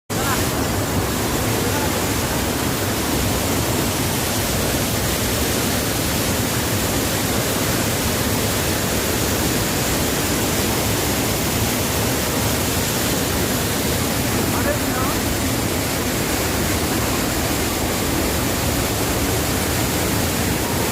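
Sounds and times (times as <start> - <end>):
small waterfall rushing: 0.1 - 20.9.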